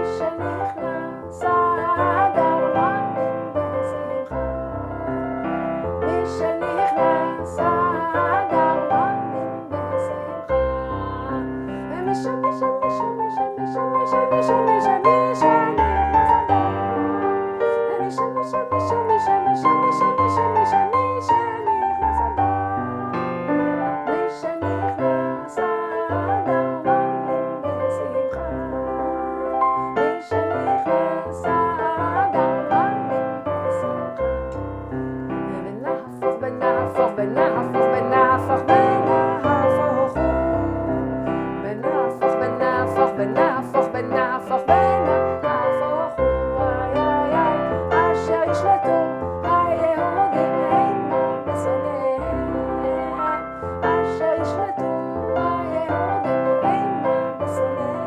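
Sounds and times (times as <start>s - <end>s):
electric keyboard melody: 0.0s - 58.0s.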